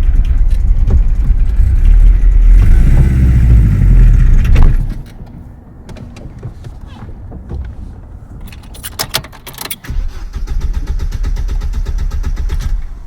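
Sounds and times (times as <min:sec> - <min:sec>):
car engine cranking: 0:00.0 - 0:13.0.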